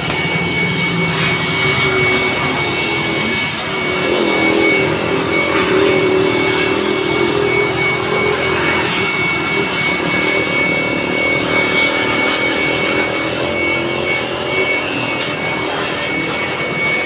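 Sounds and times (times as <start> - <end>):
electric air blower rushing air: 0.0 - 17.0
high whine: 0.0 - 17.0.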